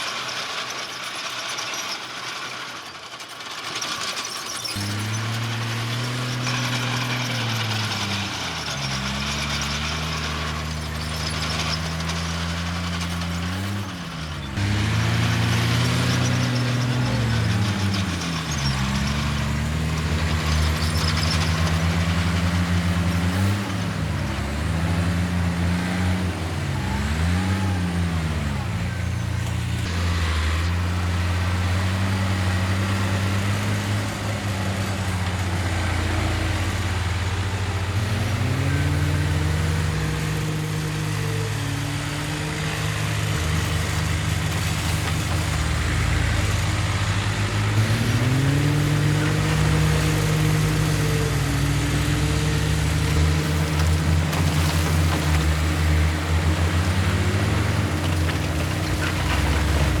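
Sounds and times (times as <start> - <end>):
heavy diesel engine revving: 4.0 - 60.0.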